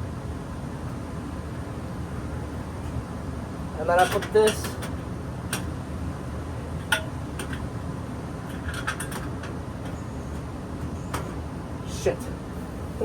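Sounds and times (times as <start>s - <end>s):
furnace blower fan running: 0.0s - 13.0s.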